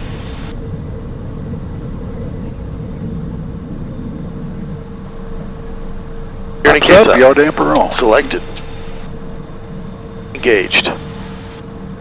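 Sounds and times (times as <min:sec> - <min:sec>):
engine and airflow rush: 0:00.0 - 0:12.0
thin steady hum: 0:00.0 - 0:12.0.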